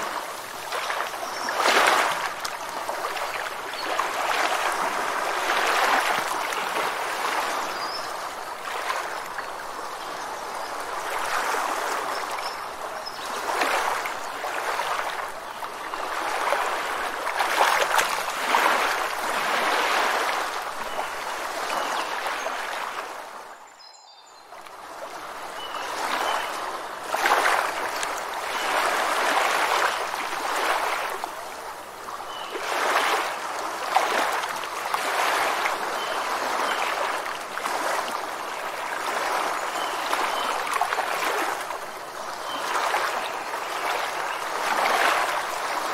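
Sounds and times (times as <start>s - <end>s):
rushing water: 0.0s - 45.9s.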